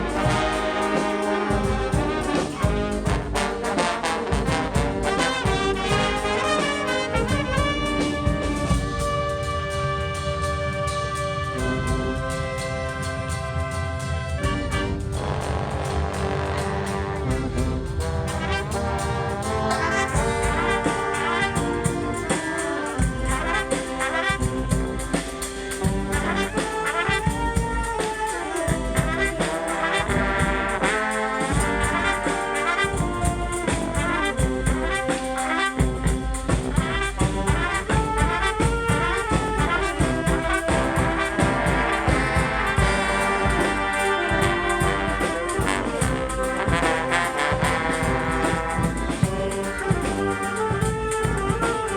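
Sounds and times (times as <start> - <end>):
brass band playing funk: 0.0 - 51.9.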